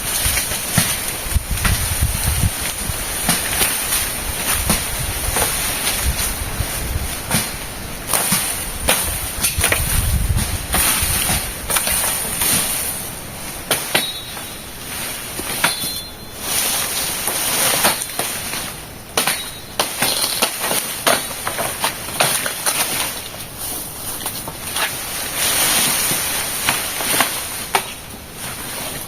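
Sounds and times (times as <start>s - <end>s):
blade chopping palm fronds: 0.0s - 29.0s.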